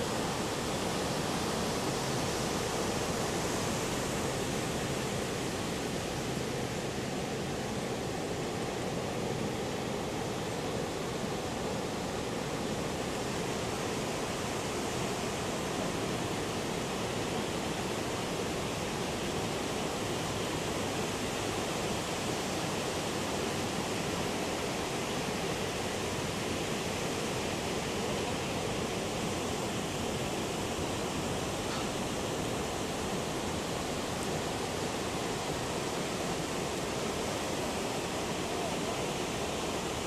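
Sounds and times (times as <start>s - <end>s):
ocean surf roaring: 0.0s - 40.0s.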